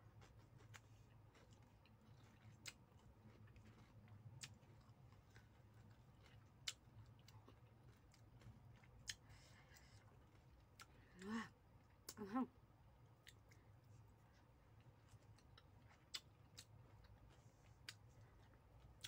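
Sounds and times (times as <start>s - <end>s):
faint chewing: 0.0s - 12.3s, 13.0s - 19.0s.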